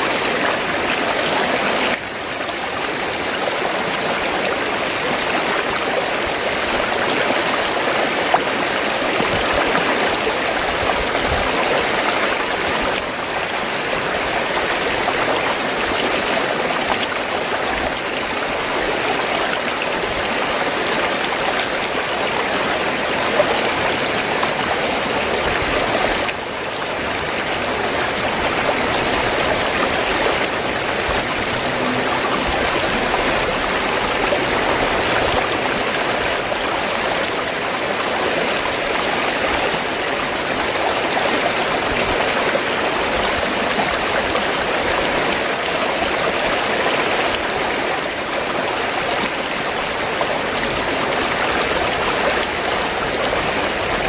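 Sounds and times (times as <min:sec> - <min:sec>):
stream water rushing and gurgling: 0:00.0 - 0:54.0.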